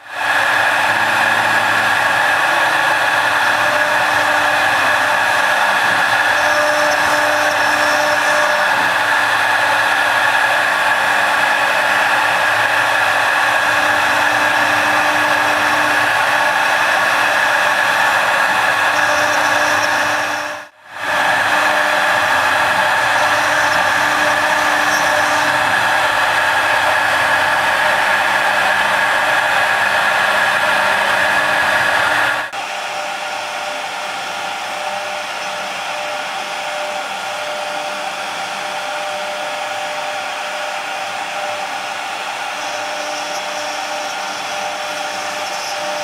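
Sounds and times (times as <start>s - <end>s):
router spindle whirring while carving wood: 0.0s - 46.0s.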